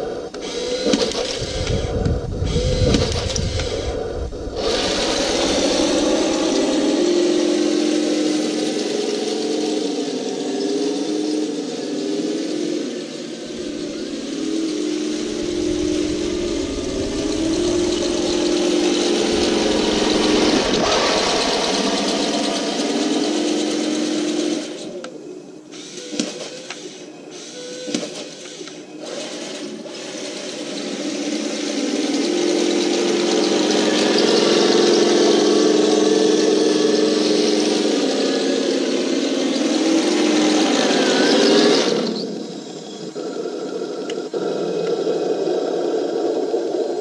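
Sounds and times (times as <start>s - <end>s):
toy tank motor whirring: 0.0s - 47.0s.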